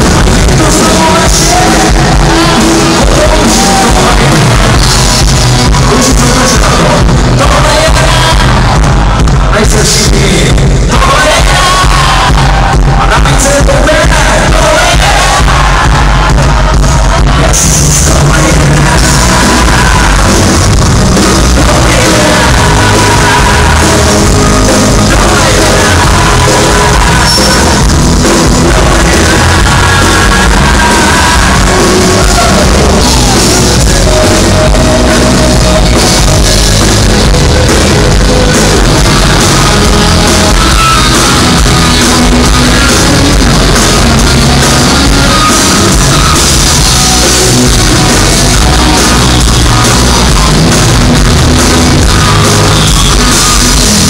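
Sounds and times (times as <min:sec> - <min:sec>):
live rock band: 0:00.0 - 0:54.0
person singing: 0:00.0 - 0:54.0.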